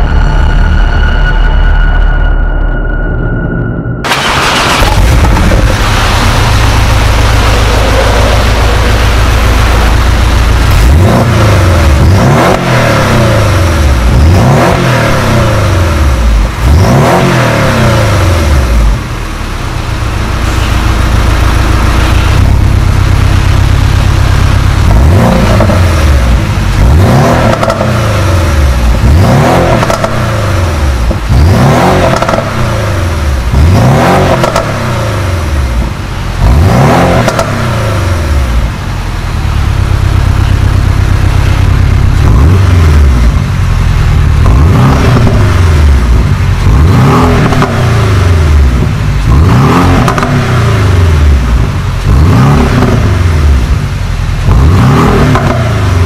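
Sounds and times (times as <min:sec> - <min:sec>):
car engine idling: 0:00.0 - 0:56.0
car engine revving: 0:00.0 - 0:56.0.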